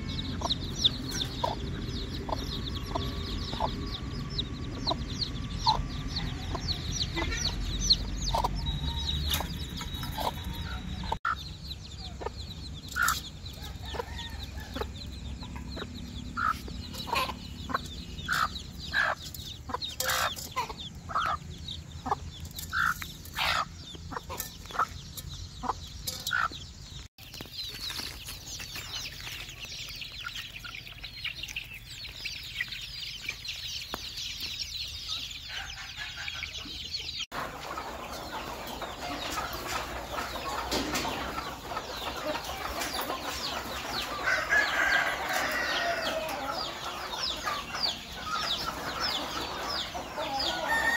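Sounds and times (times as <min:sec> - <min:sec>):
chicks cheeping: 0:00.0 - 0:50.9
hens clucking: 0:00.0 - 0:50.9.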